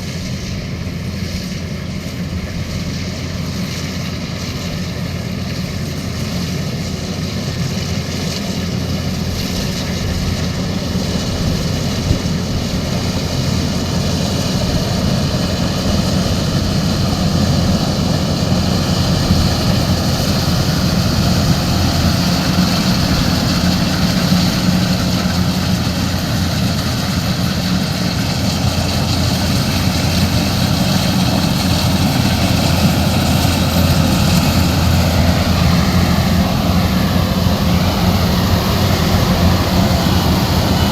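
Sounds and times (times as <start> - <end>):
harvester diesel engine running: 0.0 - 40.9
threshing machinery noise: 0.0 - 40.9.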